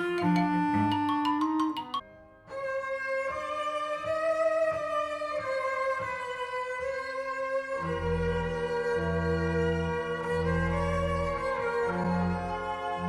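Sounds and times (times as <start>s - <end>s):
low bowed strings: 0.0s - 13.0s
solo violin melody: 0.0s - 13.0s.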